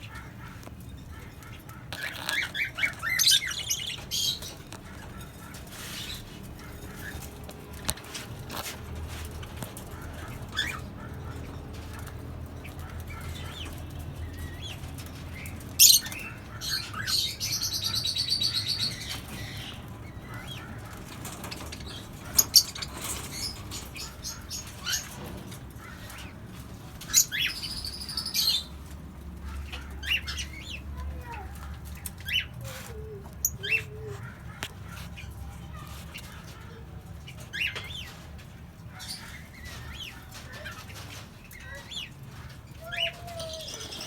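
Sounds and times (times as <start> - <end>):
parrots calling and chirping: 0.0 - 44.0.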